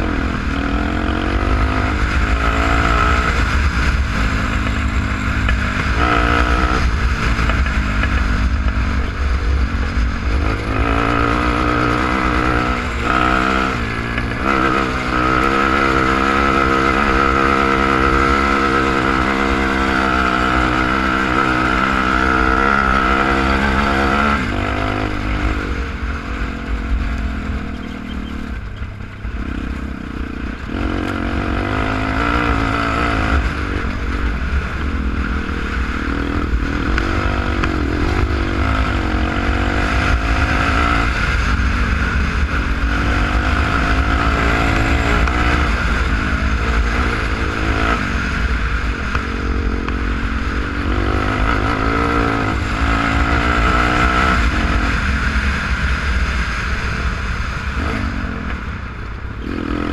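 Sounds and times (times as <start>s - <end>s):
quad bike engine running: 0.0s - 59.9s
wind rumble on microphone: 0.0s - 59.9s.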